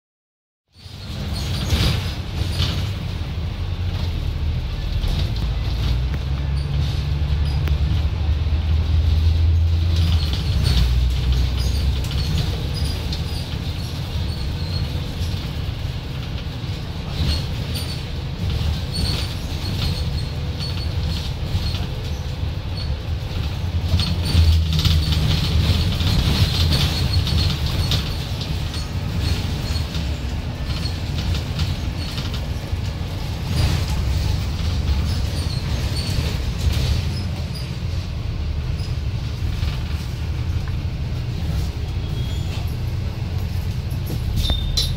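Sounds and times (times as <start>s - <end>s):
bus body rattling and clicking: 0.7s - 44.9s
bus engine drone: 0.7s - 44.9s.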